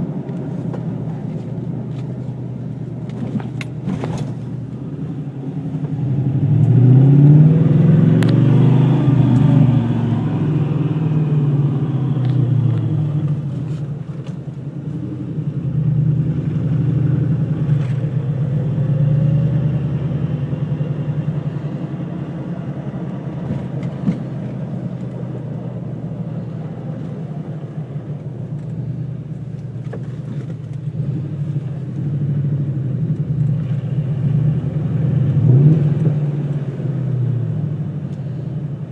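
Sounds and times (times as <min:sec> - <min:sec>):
car engine revving and running: 0:00.0 - 0:38.9.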